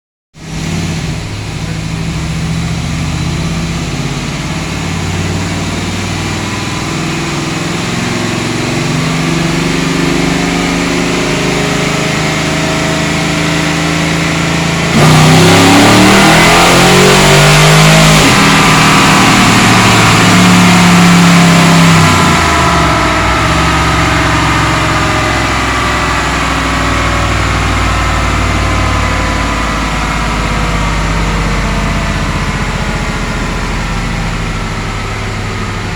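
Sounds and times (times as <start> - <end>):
truck engine running and revving: 0.4 - 35.9.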